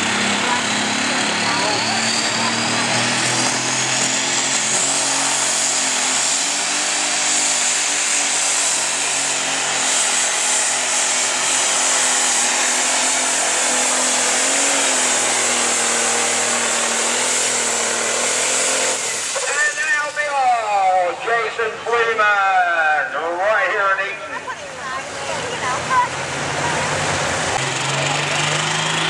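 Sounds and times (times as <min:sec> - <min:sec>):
diesel engine at full throttle: 0:00.0 - 0:29.0.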